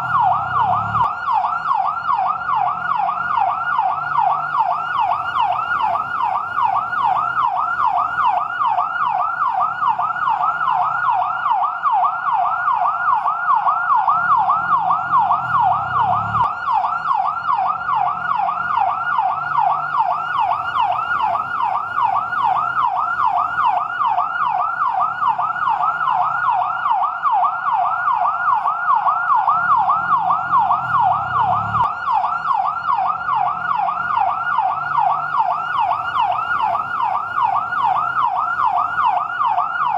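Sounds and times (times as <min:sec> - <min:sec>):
fire truck siren yelping: 0:00.0 - 0:39.9.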